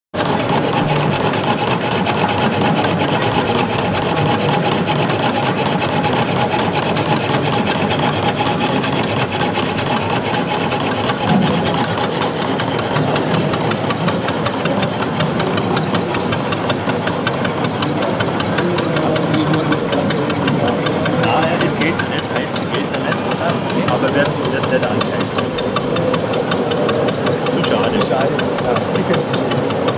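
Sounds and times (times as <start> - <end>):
saw blades rasping through wood: 0.2 - 29.9
small steam engine running: 0.2 - 29.9.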